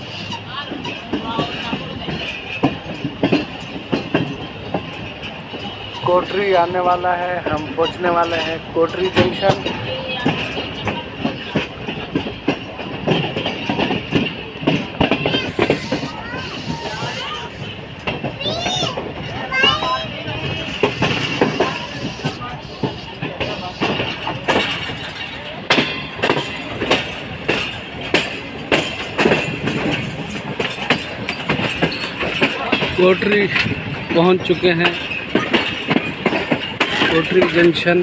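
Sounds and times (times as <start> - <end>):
train wheels clattering: 0.0 - 38.0.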